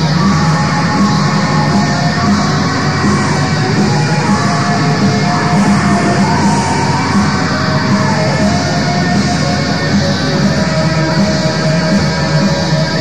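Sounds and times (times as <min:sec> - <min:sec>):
distorted guitars: 0:00.0 - 0:13.0
drums: 0:00.0 - 0:13.0
harsh yelled vocal: 0:00.0 - 0:13.0.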